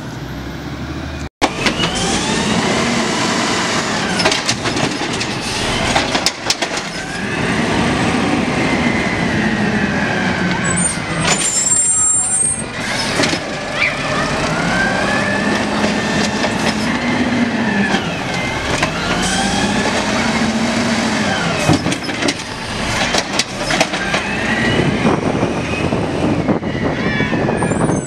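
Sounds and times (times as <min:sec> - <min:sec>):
garbage truck engine and hydraulics: 0:00.0 - 0:28.0.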